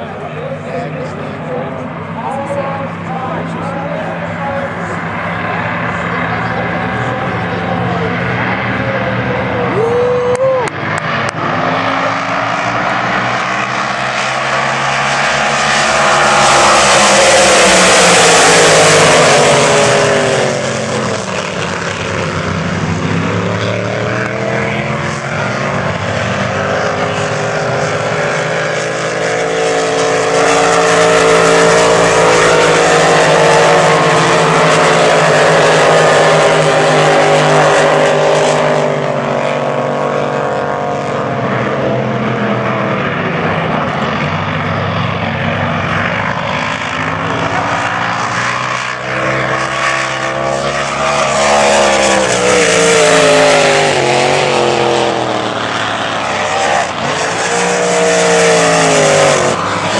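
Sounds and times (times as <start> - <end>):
race boat engines howling: 0.0 - 59.9.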